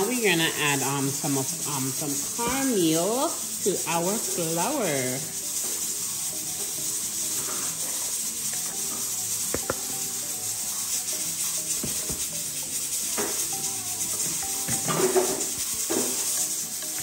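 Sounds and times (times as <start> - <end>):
cornmeal pouring granular rustle: 0.0 - 17.0
faint background music: 0.0 - 17.0
steady hiss: 0.0 - 17.0.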